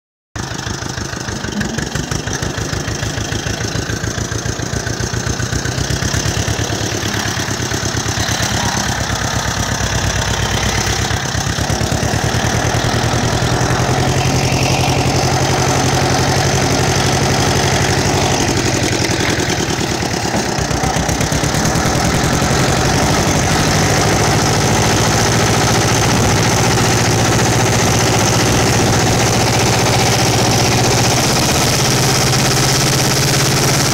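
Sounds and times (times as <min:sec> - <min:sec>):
tractor diesel engine running: 0:00.4 - 0:33.9.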